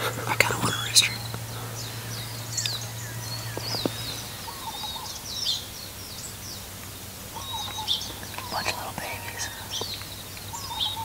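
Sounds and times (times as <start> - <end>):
lower bird calls: 0.0 - 11.0
wild birds chirping and calling: 0.0 - 11.0.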